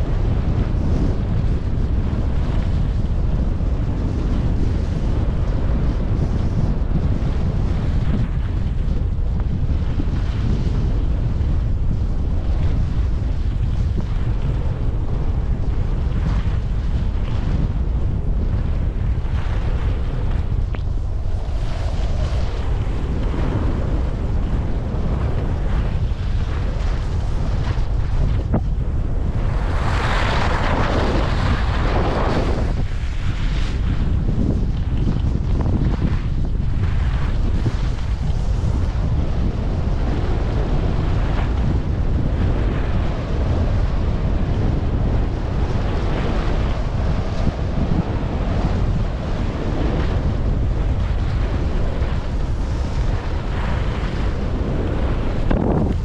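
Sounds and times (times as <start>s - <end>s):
wind buffeting microphone: 0.0s - 56.0s
skis sliding on snow: 0.2s - 56.0s.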